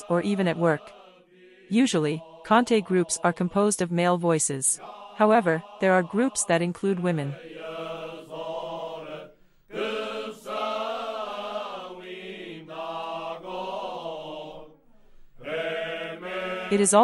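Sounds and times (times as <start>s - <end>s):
men singing unaccompanied: 0.0s - 3.4s, 4.8s - 6.5s, 7.2s - 14.7s, 15.4s - 16.9s.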